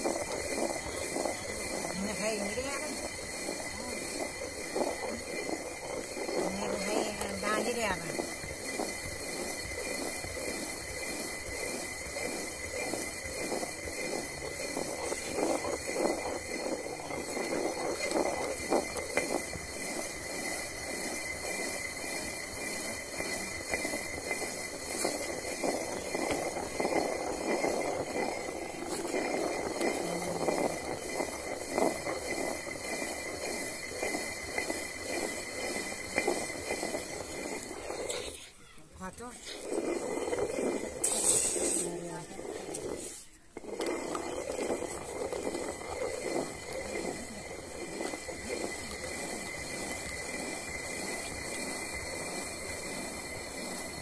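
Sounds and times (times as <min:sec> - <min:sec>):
stone quern grinding: 0:00.0 - 0:54.0.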